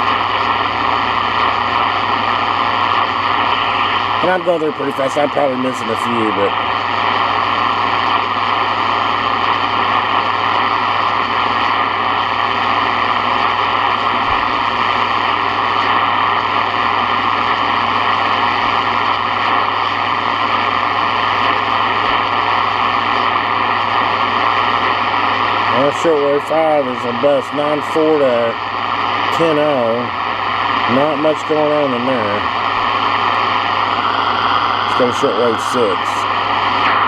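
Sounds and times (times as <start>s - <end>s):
radio static hiss: 0.0s - 37.0s
low hum: 6.5s - 37.0s.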